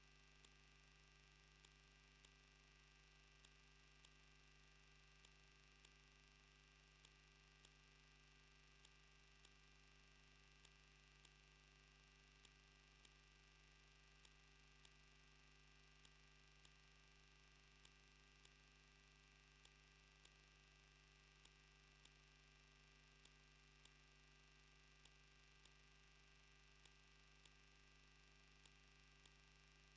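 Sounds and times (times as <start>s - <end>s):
faint electrical hum: 0.0s - 29.9s
soft regular ticks: 0.0s - 29.9s.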